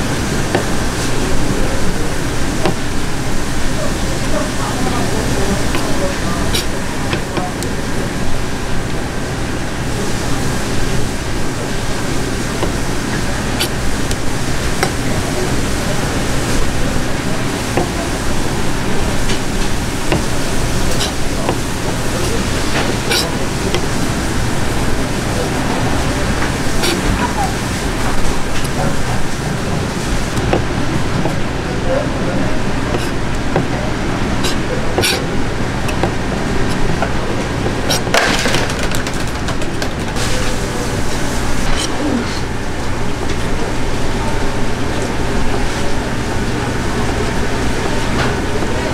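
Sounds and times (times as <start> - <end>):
fish market hum and hiss: 0.0 - 48.9.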